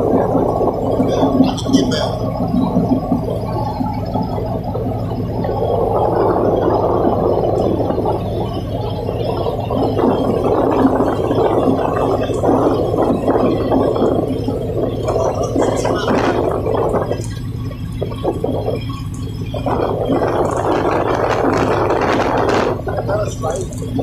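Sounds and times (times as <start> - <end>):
diesel engines humming: 0.0 - 24.0
water churning and gurgling: 0.0 - 24.0.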